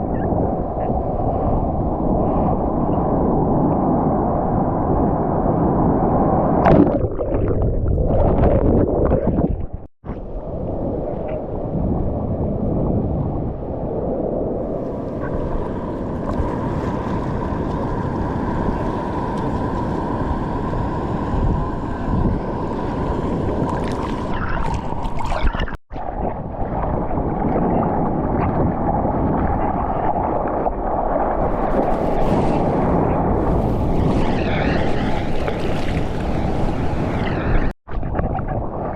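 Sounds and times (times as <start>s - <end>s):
surf and moving water: 0.0s - 38.9s
wind buffeting microphone: 0.0s - 38.9s.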